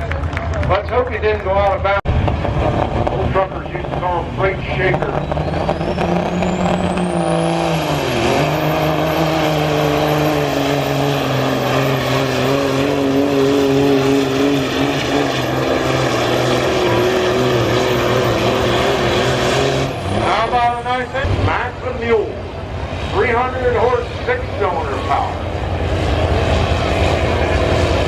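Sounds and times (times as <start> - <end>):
truck engine under load: 0.0 - 28.0
high whine: 1.8 - 28.0.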